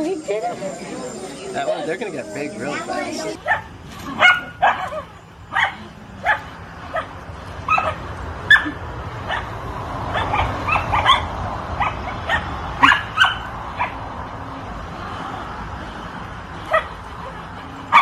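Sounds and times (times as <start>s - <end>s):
puppies yapping: 0.0s - 9.5s, 10.1s - 14.1s, 16.6s - 18.0s.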